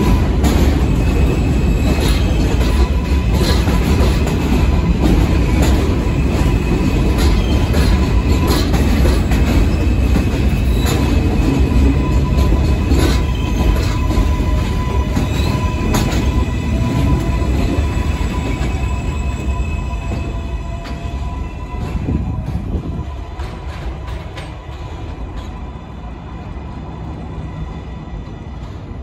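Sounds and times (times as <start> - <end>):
train rumbling on elevated structure: 0.0 - 29.0.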